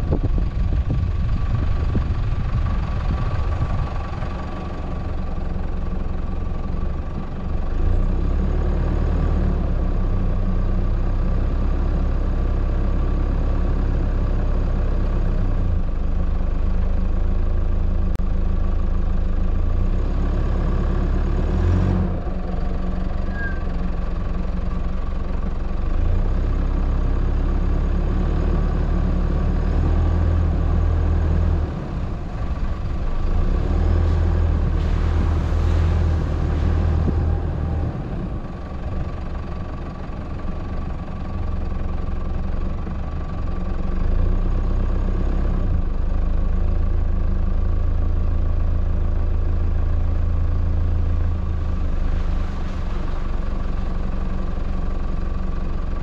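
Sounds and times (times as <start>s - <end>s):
car engine low drone: 0.0s - 56.0s.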